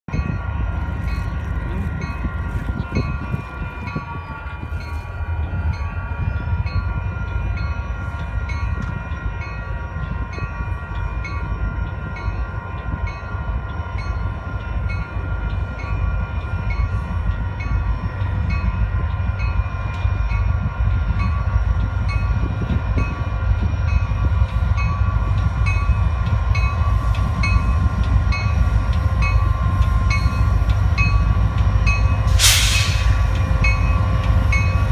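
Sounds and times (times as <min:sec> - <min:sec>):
train rumbling by: 0:00.1 - 0:34.9.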